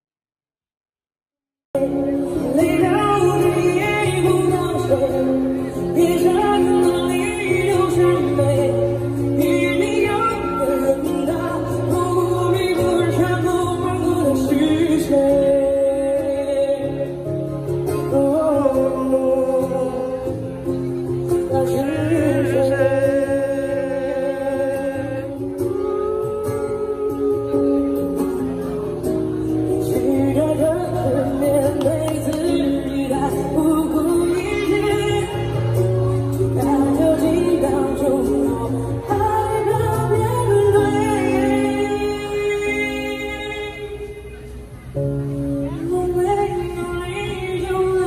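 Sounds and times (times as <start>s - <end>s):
person singing: 1.8s - 44.2s.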